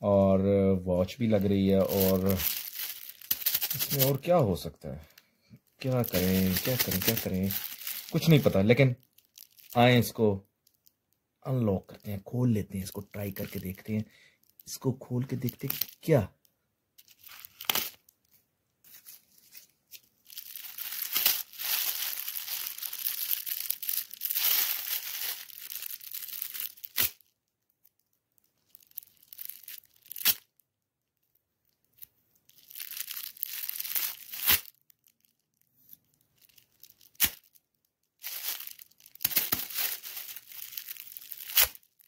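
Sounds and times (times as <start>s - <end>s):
metallic foil wrap crinkling and tearing: 1.1s - 10.9s, 11.5s - 16.3s, 17.0s - 30.6s, 31.9s - 42.0s.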